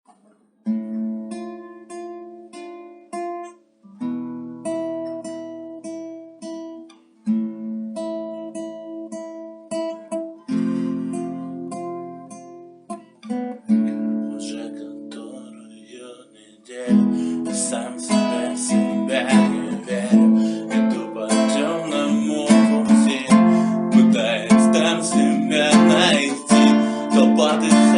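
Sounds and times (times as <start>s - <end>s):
acoustic guitar strumming: 0.1s - 27.9s.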